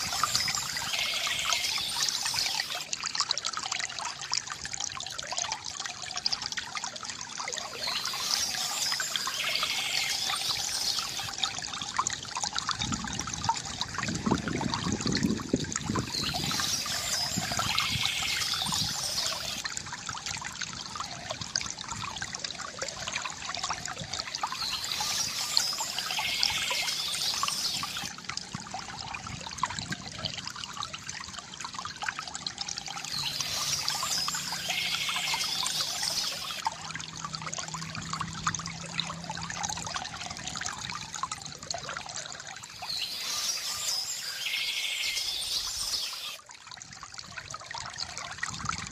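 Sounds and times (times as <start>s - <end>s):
water gurgling from fountain: 0.0s - 48.9s.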